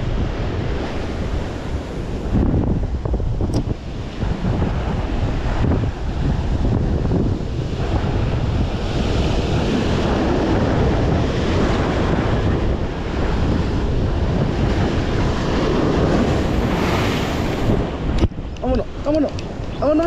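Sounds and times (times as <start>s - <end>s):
surf breaking over rocks: 0.0s - 20.0s
wind buffeting microphone: 0.0s - 20.0s.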